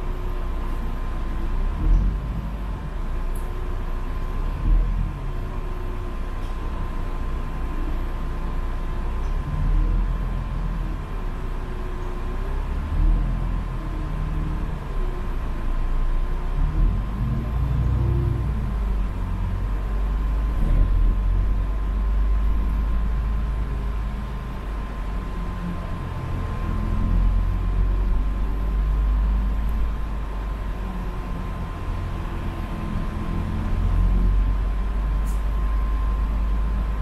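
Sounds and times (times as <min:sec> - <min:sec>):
vehicle rumble from inside: 0:00.0 - 0:37.0.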